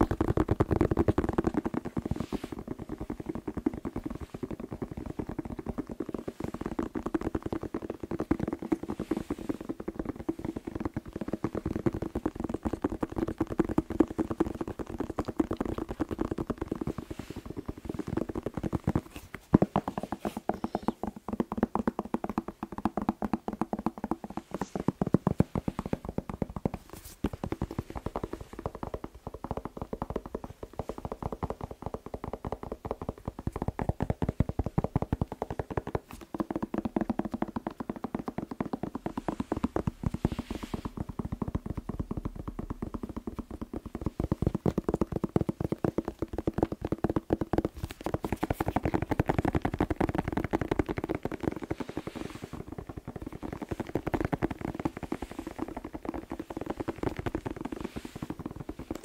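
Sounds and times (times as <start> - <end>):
fingertip tapping on bell pepper: 4.9 - 59.0.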